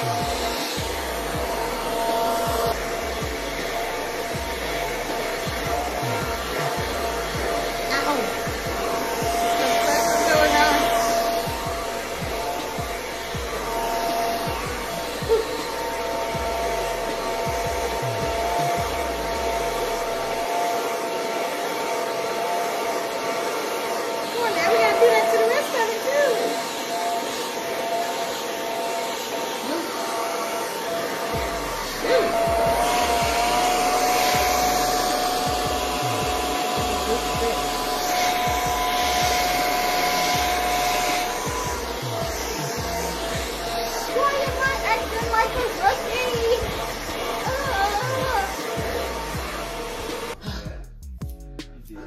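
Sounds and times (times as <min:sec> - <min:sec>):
hair dryer running: 0:00.0 - 0:50.7.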